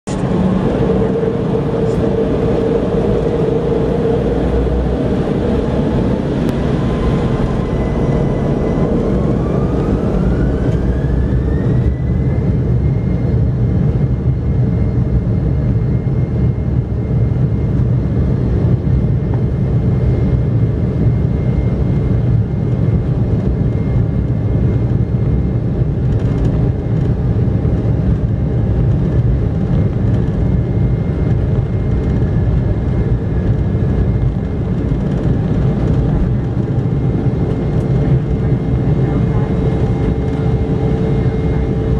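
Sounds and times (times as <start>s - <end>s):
jet engine whine: 0.0s - 41.9s
loud constant engine rumble: 0.0s - 41.9s.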